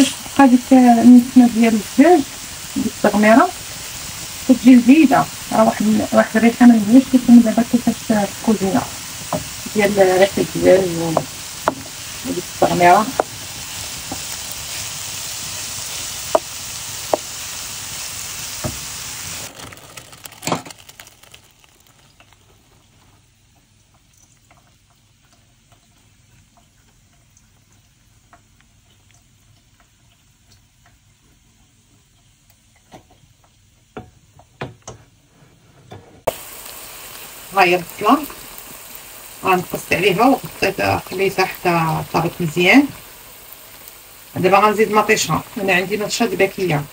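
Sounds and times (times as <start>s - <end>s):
food sizzling in a frying pan: 0.0s - 35.6s, 36.2s - 46.9s.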